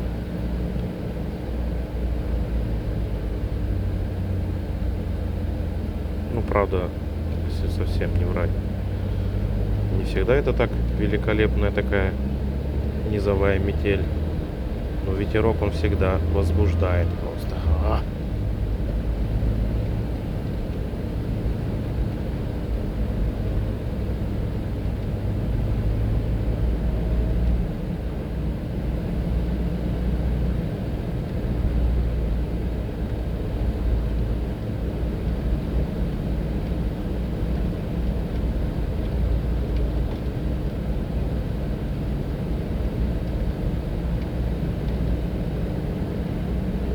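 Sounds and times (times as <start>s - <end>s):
engine and road noise rumble: 0.0s - 46.9s.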